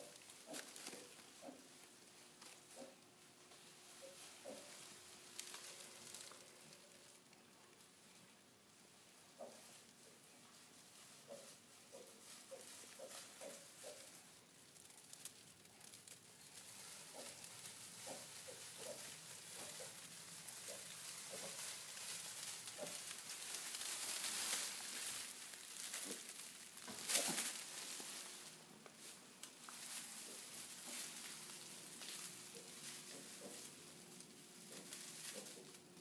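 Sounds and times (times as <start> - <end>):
straw rustling: 0.0 - 8.8, 9.4 - 36.0.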